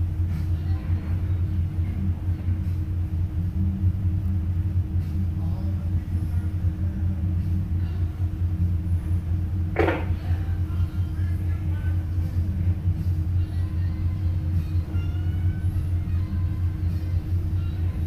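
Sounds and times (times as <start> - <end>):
diesel engines droning: 0.0 - 18.0
steady hum: 0.0 - 18.0.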